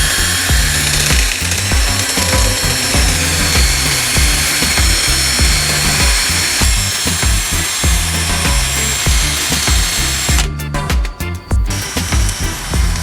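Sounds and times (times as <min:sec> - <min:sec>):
power tool whirring: 0:00.0 - 0:10.5, 0:11.7 - 0:13.0
background music with bass beat: 0:00.0 - 0:13.0.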